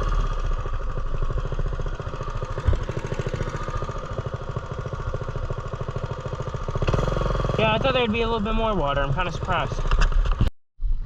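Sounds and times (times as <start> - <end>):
small engine running steadily: 0.0 - 10.5.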